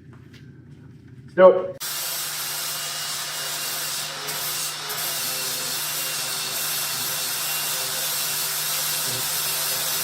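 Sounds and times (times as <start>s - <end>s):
angle grinder grinding: 1.8s - 10.0s.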